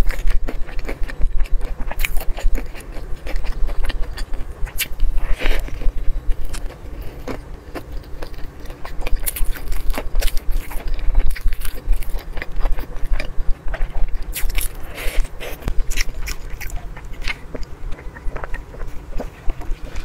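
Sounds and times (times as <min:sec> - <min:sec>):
fried chicken crunching: 0:00.0 - 0:20.0.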